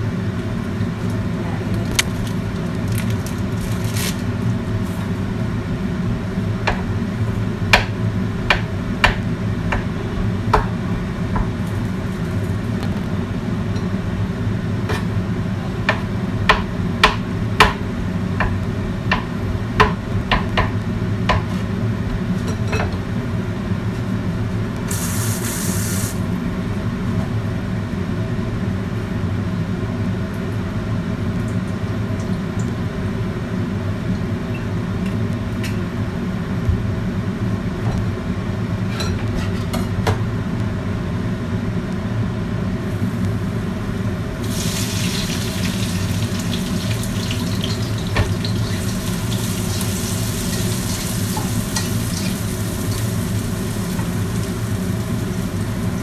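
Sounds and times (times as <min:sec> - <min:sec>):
range hood fan humming: 0:00.0 - 0:56.0.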